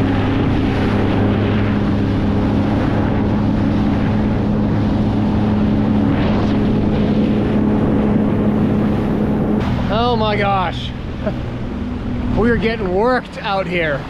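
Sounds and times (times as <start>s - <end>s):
jet ski engine hum: 0.0s - 14.0s
water rushing: 0.0s - 14.0s
wind rushing past microphone: 0.0s - 14.0s.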